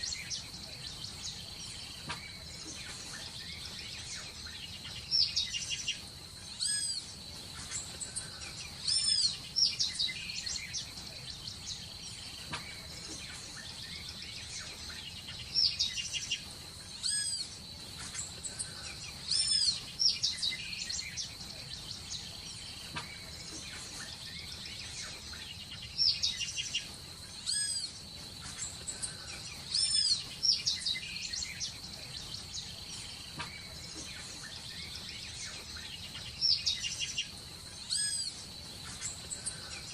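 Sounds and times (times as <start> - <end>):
birds chirping: 0.0 - 39.9
faint hiss: 0.0 - 39.9.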